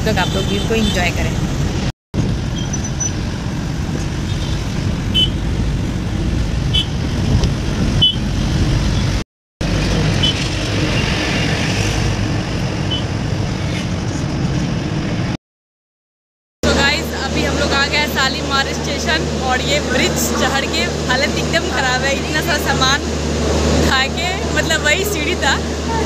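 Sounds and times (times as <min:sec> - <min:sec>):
road and engine rumble: 0:00.0 - 0:15.4, 0:16.6 - 0:26.0.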